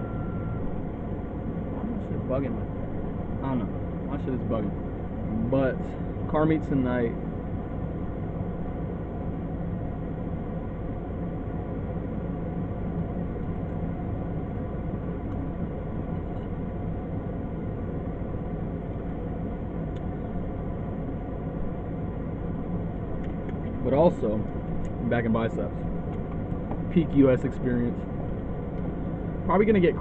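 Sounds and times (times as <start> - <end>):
steady vehicle hum with hiss: 0.0 - 30.0.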